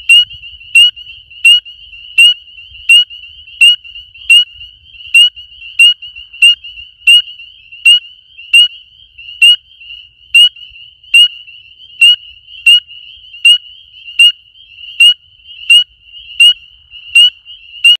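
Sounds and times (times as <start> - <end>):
chorus of peeping frogs: 0.0 - 18.0
high rising frog peep: 0.0 - 18.0.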